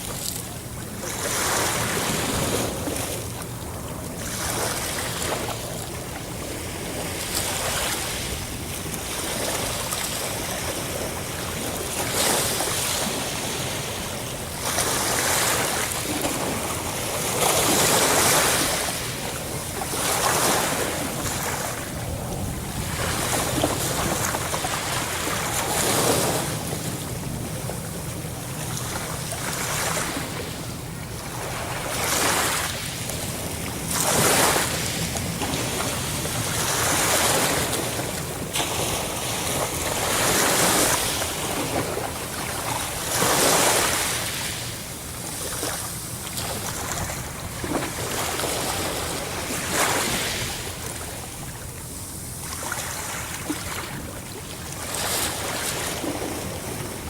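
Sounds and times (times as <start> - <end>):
low rumble of sea: 0.0 - 57.0
ocean waves breaking on shore: 0.0 - 57.0.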